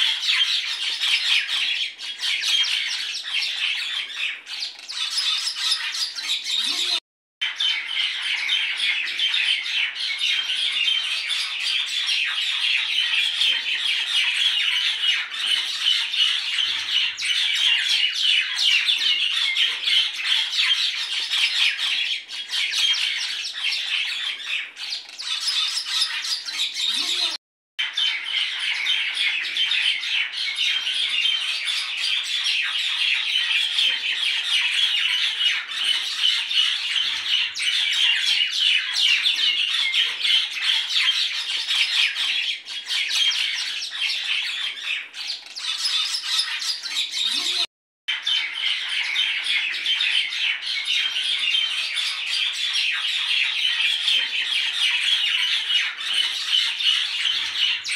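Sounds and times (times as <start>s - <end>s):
chorus of birds chirping: 0.0s - 57.9s.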